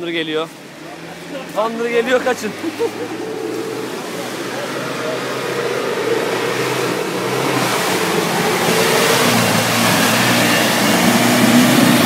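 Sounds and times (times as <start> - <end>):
engine working hard: 0.0 - 12.0
tyres churning in mud: 0.0 - 12.0.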